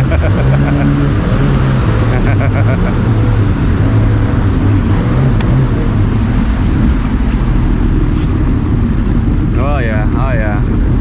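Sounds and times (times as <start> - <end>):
jet ski engines running: 0.0 - 11.0
water churning: 0.0 - 11.0.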